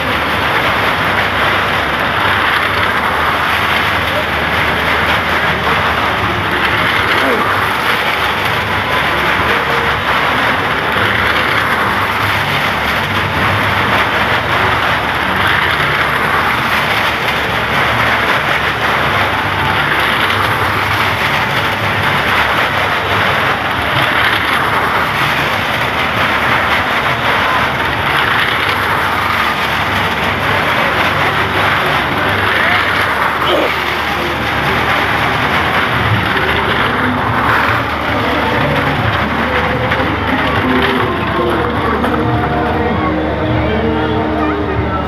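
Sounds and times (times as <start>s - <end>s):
tyres on wooden planks: 0.0s - 45.0s.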